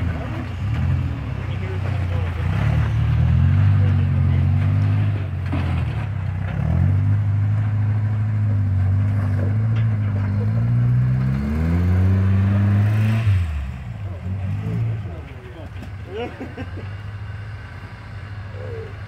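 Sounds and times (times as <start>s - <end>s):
truck engine revving under load: 0.0s - 19.0s.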